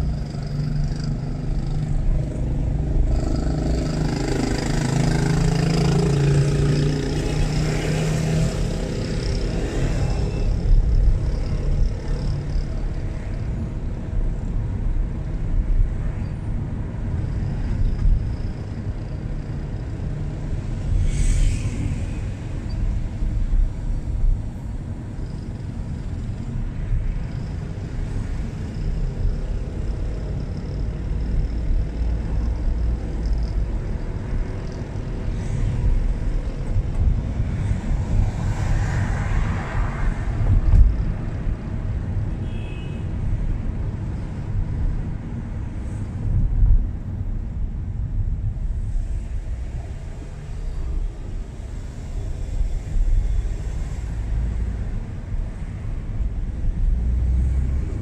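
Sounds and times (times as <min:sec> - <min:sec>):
car road and tyre rumble: 0:00.0 - 0:58.0.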